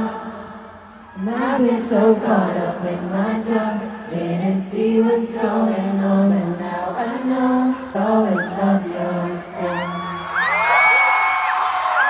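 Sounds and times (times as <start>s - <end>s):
person singing live: 0.0s - 11.6s.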